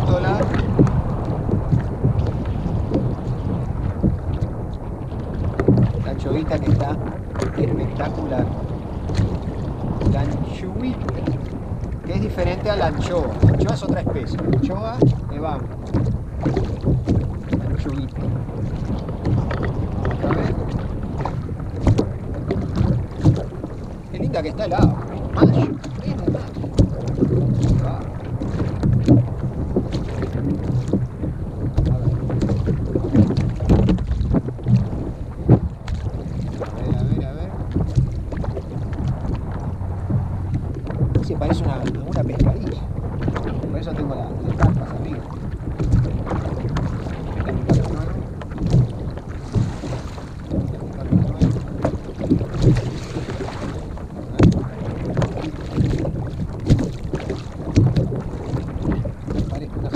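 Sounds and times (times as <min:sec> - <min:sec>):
splashy knocks: 0:00.0 - 0:59.9
water lapping against hull: 0:00.0 - 0:59.9
wind buffeting microphone: 0:00.0 - 0:59.9.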